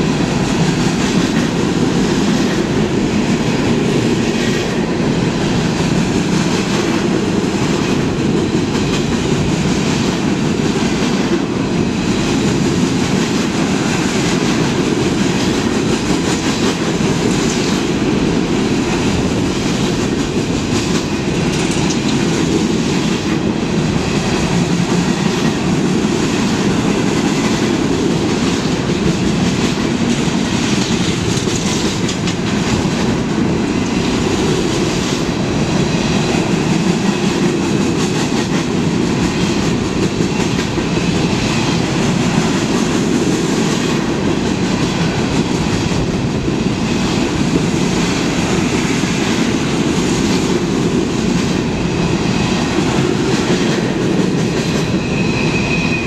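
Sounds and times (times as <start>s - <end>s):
steel wheels rumbling on rails: 0.0s - 56.0s
clickety-clack wheel clatter: 0.3s - 51.6s.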